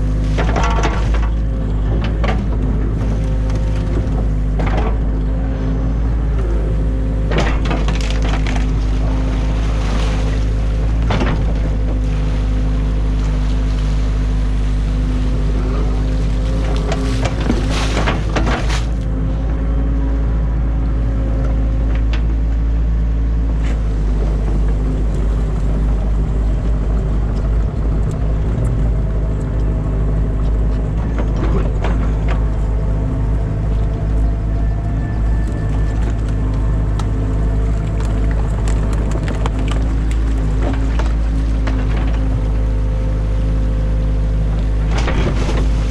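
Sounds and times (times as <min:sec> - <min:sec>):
diesel engine running: 0:00.0 - 0:45.9
hydraulics whining: 0:00.0 - 0:45.9.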